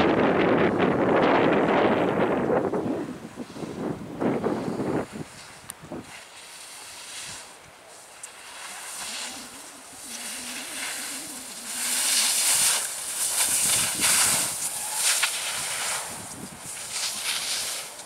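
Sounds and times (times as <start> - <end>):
skis scraping on snow: 3.4 - 18.0.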